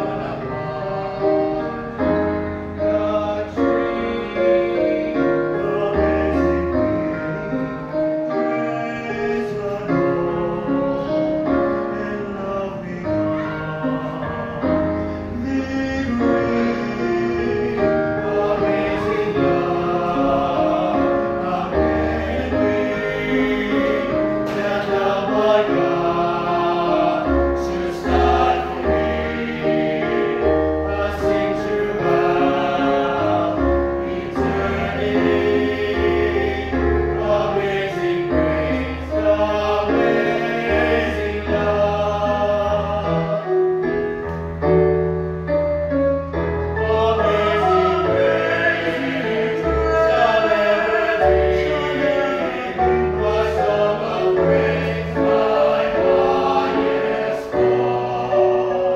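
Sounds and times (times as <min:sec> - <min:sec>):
men singing in close harmony: 0:00.0 - 0:07.6, 0:08.2 - 0:43.6, 0:46.7 - 0:58.9.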